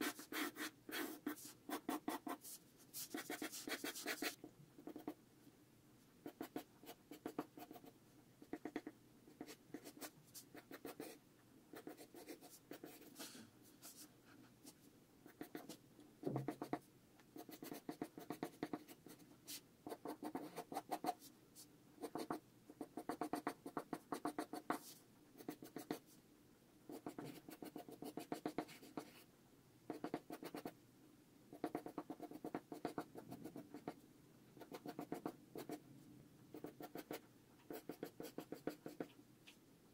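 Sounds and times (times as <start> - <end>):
pencil scratching on paper: 0.0 - 5.2, 6.2 - 16.8, 17.4 - 21.3, 22.0 - 26.0, 26.9 - 29.2, 29.9 - 30.7, 31.5 - 34.0, 34.6 - 35.8, 36.5 - 39.1.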